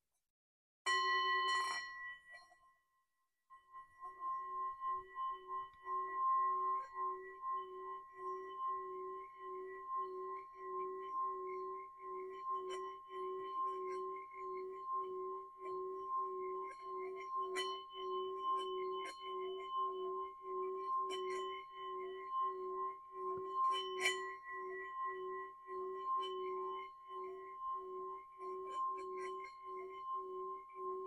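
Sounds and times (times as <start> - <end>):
singing bowl tone: 0.9 - 31.0.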